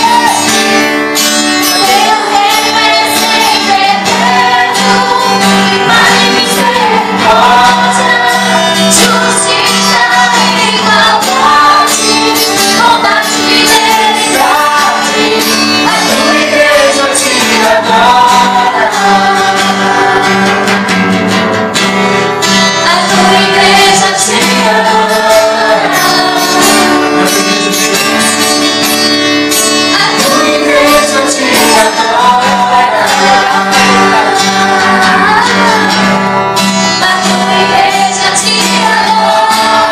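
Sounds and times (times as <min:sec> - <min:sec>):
guitar and band accompaniment: 0:00.0 - 0:39.9
woman singing into microphone: 0:01.6 - 0:20.6, 0:22.8 - 0:27.4, 0:29.9 - 0:36.2, 0:36.9 - 0:39.9.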